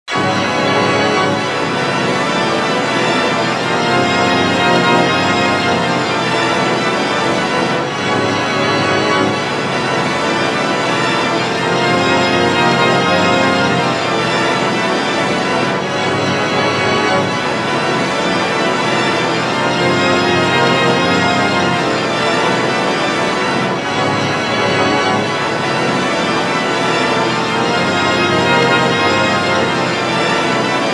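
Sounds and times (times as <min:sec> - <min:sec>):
organ-like electronic chords: 0:00.1 - 0:30.9.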